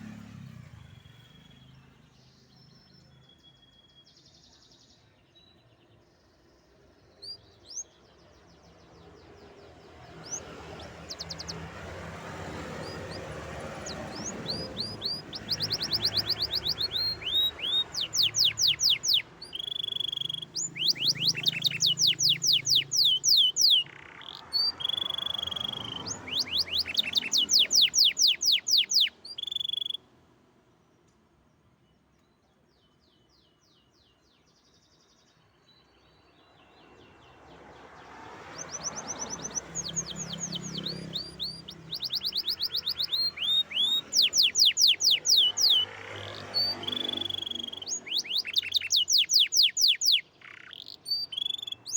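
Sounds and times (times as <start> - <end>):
canary singing trills: 0.0 - 30.2, 38.1 - 51.9.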